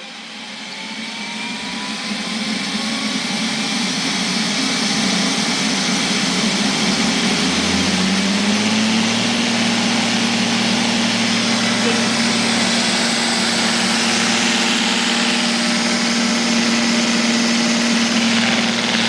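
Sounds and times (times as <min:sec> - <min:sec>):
robot vacuum cleaner whirring: 0:00.0 - 0:19.0.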